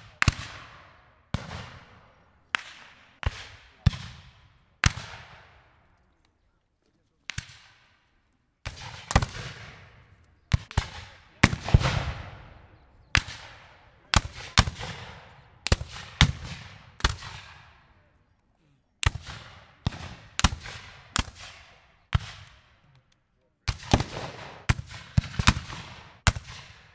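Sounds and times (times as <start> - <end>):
rifle shots echoing: 0.0 - 5.7, 8.7 - 18.0, 19.0 - 22.7, 23.7 - 26.9.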